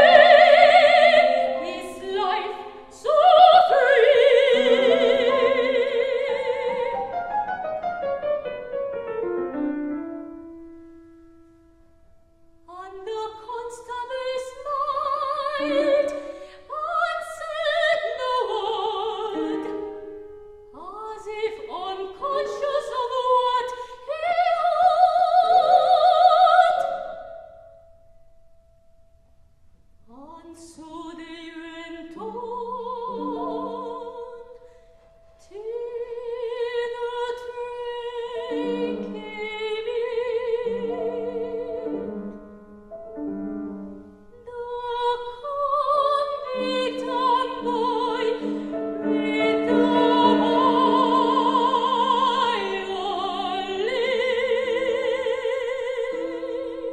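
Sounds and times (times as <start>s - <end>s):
soprano singing operatically: 0.0s - 7.7s, 12.7s - 27.7s, 30.1s - 34.7s, 35.4s - 42.6s, 44.2s - 56.9s
grand piano: 0.0s - 56.9s.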